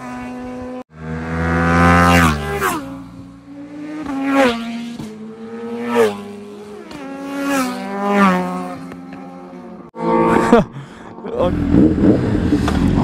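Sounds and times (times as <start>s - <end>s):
motorcycles passing by: 0.0s - 13.0s.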